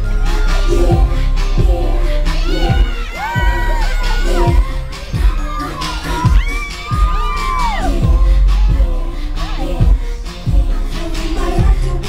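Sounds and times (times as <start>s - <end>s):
female lead vocal: 0.0s - 12.0s
heavy bass drum beat: 0.0s - 12.0s
hip-hop song over loudspeakers: 0.0s - 12.0s.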